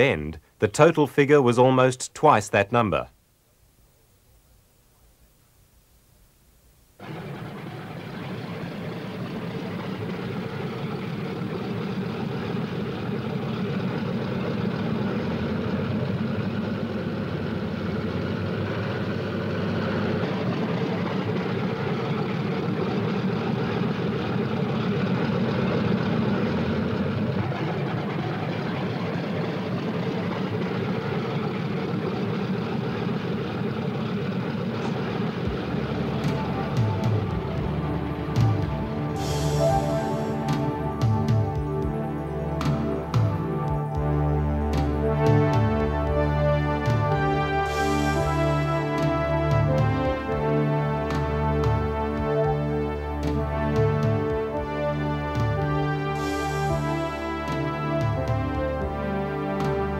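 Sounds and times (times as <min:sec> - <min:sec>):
twin piston engines running: 0:07.0 - 0:59.9.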